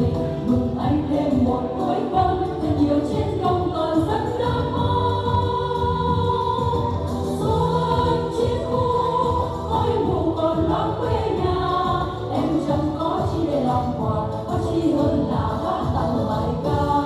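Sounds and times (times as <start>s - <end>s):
women singing in chorus: 0.0s - 17.0s.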